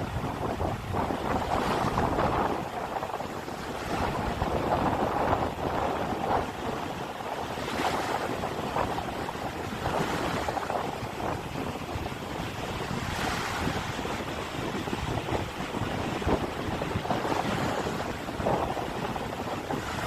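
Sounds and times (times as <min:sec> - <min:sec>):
surf washing on shore: 0:00.0 - 0:20.0
wind buffeting microphone: 0:00.0 - 0:20.0.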